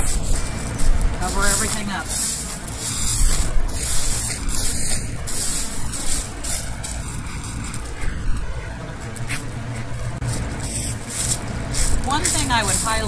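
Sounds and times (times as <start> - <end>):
gravel crunching and rattling: 0.0 - 13.0.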